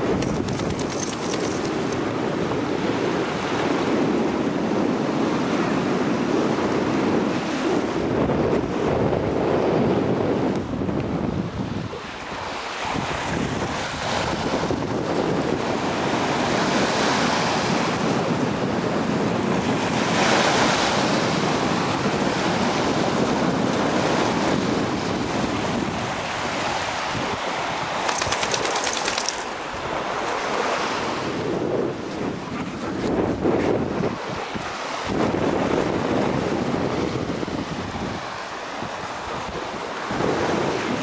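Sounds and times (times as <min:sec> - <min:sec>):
waves washing onto shore: 0:00.0 - 0:41.0
wind buffeting microphone: 0:00.0 - 0:41.0.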